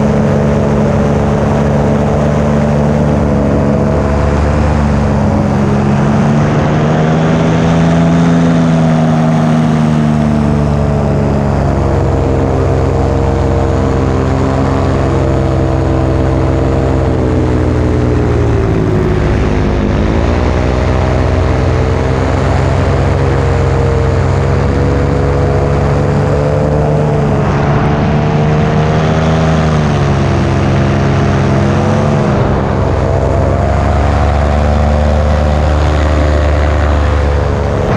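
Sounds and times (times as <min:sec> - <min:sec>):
paramotor engine and propeller: 0:00.0 - 0:37.9.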